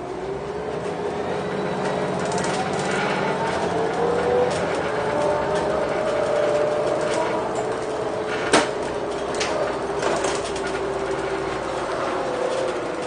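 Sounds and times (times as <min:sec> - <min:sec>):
bus drivetrain whine: 0:00.0 - 0:13.0.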